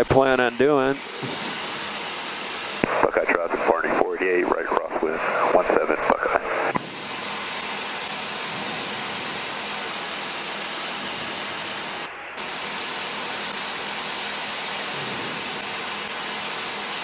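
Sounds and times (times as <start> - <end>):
light plane engine and propeller: 0.0 - 17.0.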